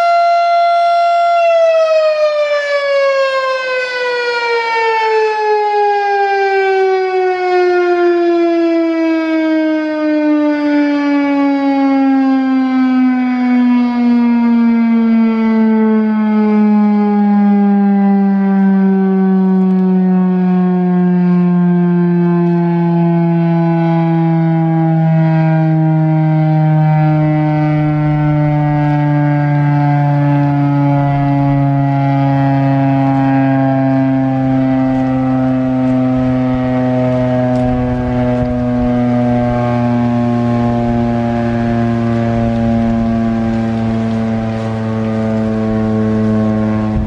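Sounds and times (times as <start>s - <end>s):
warning siren winding down: 0.0s - 47.0s.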